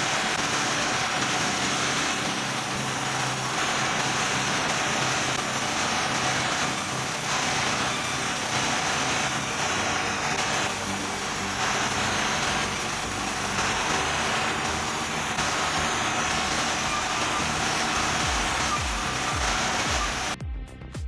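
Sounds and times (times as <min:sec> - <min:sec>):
sawmill machinery drone: 0:00.0 - 0:20.4
mid-pitched whine: 0:00.0 - 0:21.0.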